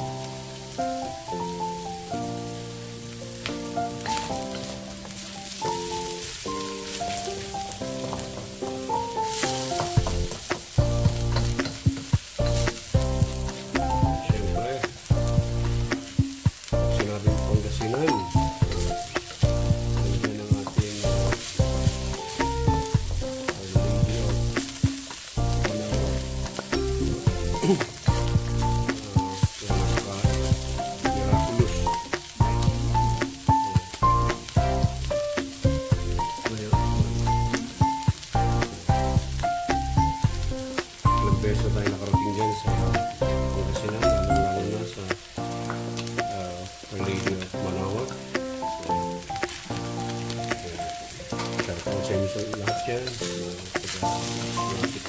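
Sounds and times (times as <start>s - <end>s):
food sizzling in a wok: 0.0s - 55.0s
background music with bass: 5.7s - 55.0s.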